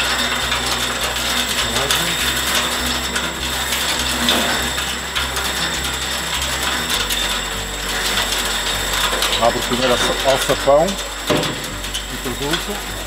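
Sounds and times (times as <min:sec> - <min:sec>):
thresher mechanism rattling: 0:00.0 - 0:13.0
thresher motor whining: 0:00.0 - 0:13.0.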